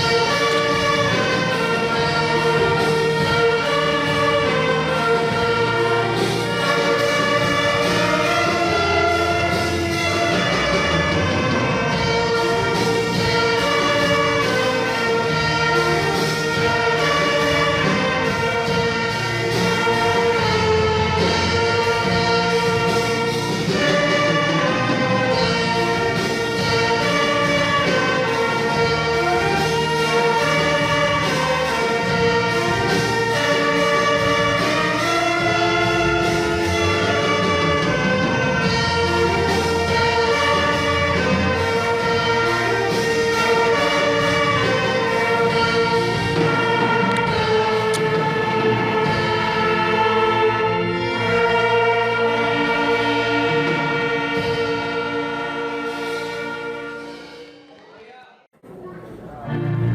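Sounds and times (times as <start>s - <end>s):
orchestra playing a hymn: 0.0s - 59.9s.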